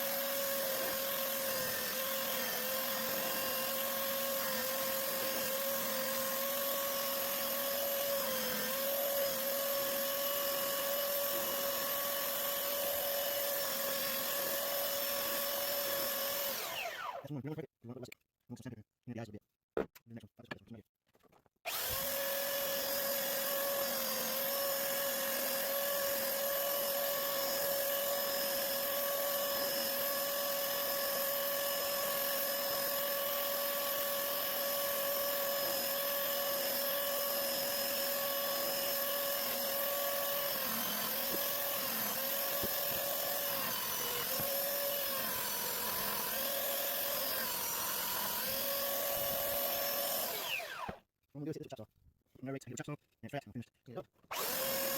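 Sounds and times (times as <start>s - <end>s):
power tool motor whining: 0.0s - 17.3s, 21.7s - 51.0s, 54.3s - 54.9s.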